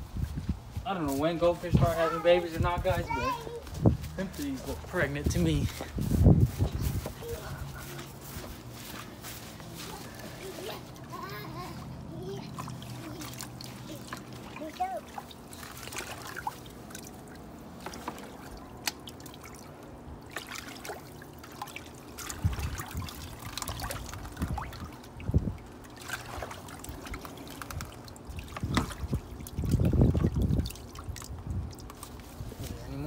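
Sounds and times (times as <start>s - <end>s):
water trickling and splashing: 1.4s - 33.0s.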